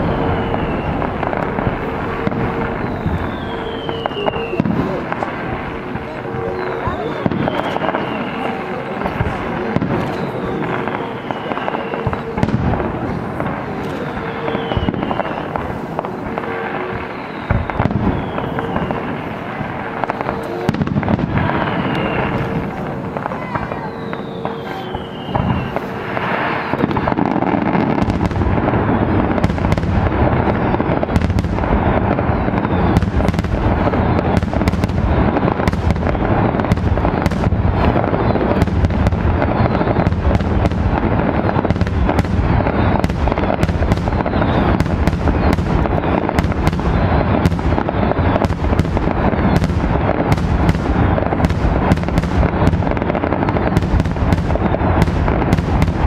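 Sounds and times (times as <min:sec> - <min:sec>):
crackling rumble: 0:00.0 - 0:56.0
fireworks bangs: 0:00.0 - 0:56.0.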